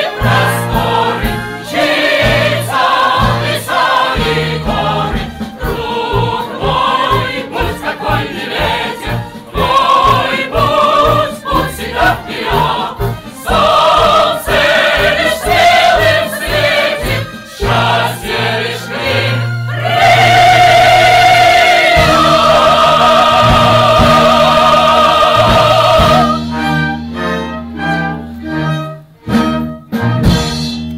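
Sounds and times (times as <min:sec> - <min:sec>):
choir singing: 0:00.0 - 0:27.0
instrumental accompaniment: 0:00.0 - 0:30.9.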